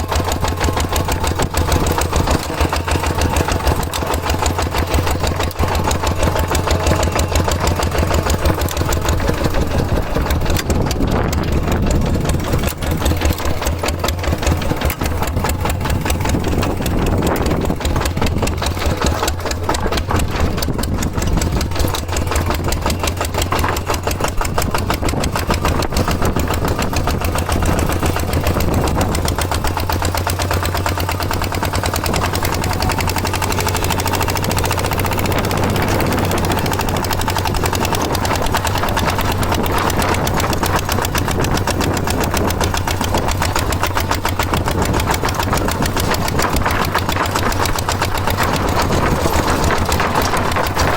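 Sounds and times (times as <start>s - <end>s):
tractor engine chugging: 0.0s - 50.9s.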